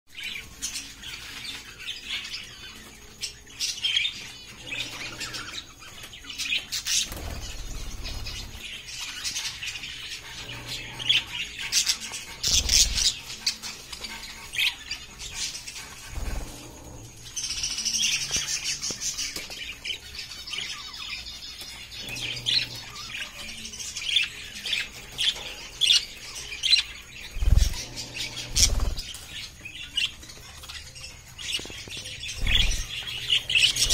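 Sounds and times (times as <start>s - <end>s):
budgerigars chirping and chattering: 0.1s - 33.9s.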